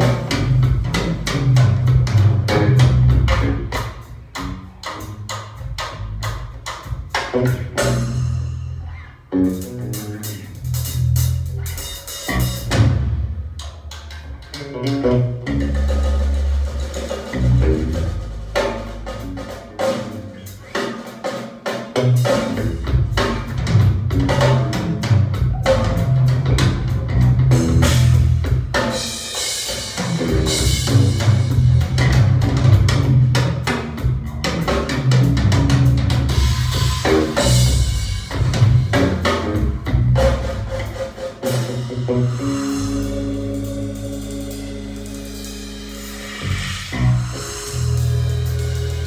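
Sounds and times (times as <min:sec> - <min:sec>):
music with drums and deep bass: 0:00.0 - 0:49.0.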